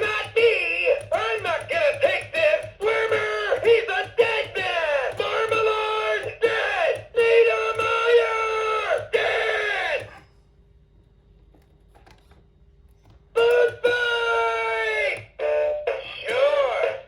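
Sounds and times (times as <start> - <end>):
lo-fi sung vocal from toy speaker: 0.0 - 10.2, 13.4 - 17.0
faint steady hum: 0.0 - 17.0.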